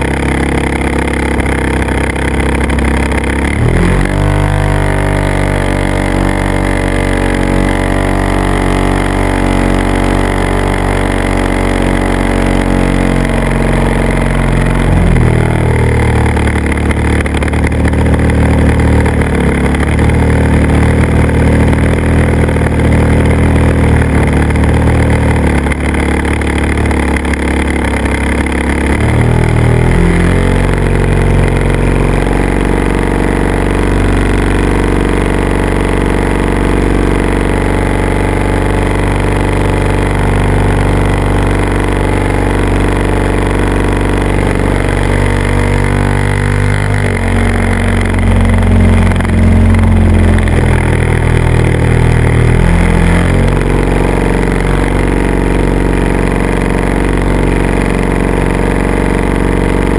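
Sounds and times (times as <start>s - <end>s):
drone motor and propeller: 0.0s - 59.9s.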